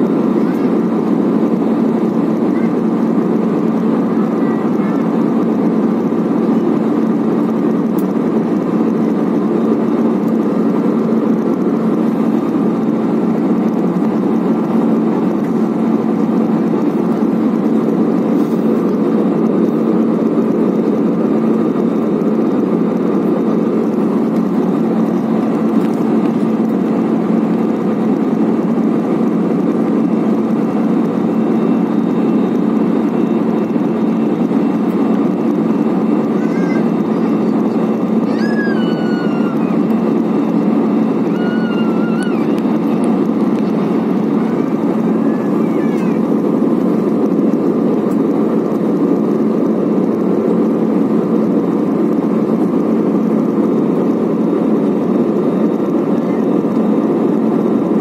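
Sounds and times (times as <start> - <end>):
jet engine and airflow noise: 0.0 - 58.0.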